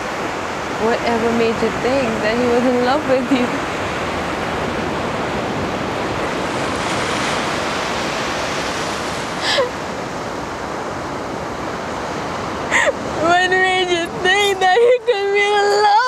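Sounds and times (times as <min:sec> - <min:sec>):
surf rushing: 0:00.0 - 0:16.0.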